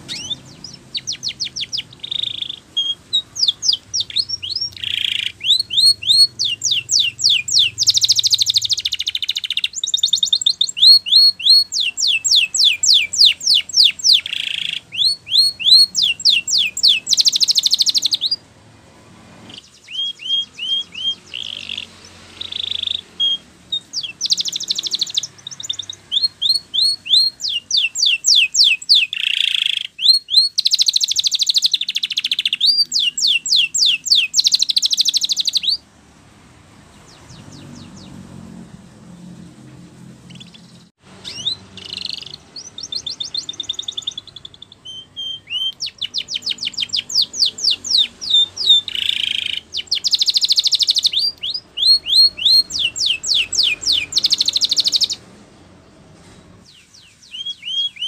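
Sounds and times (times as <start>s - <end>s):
canary singing trills: 0.0s - 35.9s, 36.8s - 58.0s.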